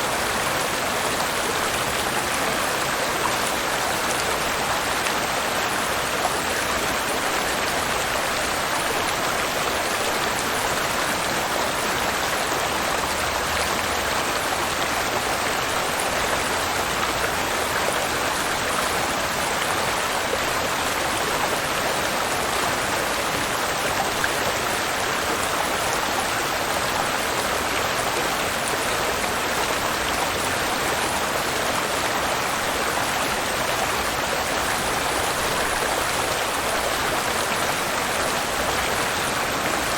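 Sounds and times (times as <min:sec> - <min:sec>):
waterfall and river water rushing: 0:00.0 - 0:39.9.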